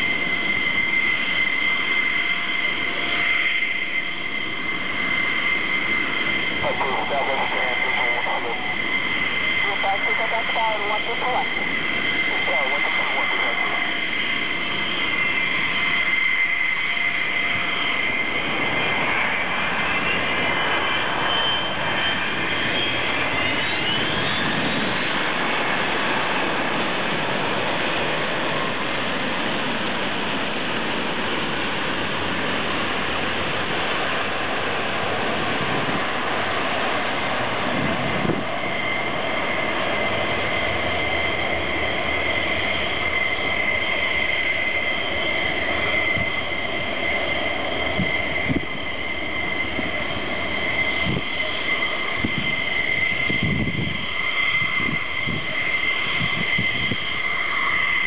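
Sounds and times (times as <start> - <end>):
jet engine roar: 0.0 - 58.0
steady high whine: 0.0 - 58.0.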